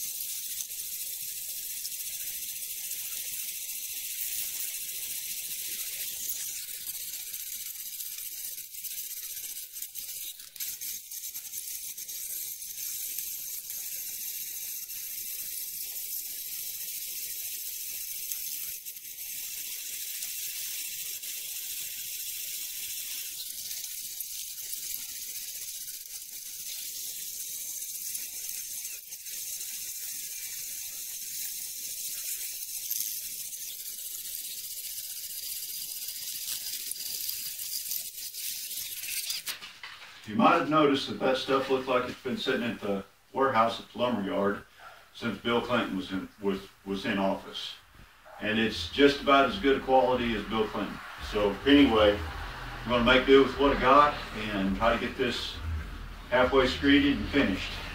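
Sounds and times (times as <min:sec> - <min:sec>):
steady high hiss: 0:00.0 - 0:57.9.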